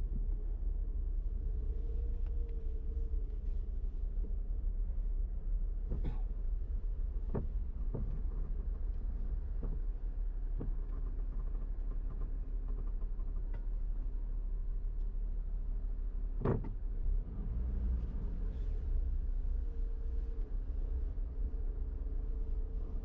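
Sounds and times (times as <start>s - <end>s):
car cabin rumble: 0.0s - 23.0s.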